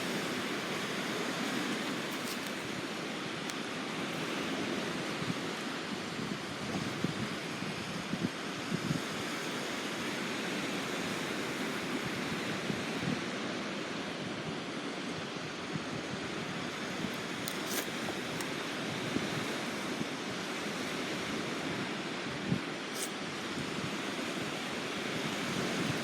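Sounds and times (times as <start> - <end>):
ocean surf: 0.0 - 26.0
wind on shore: 0.0 - 26.0.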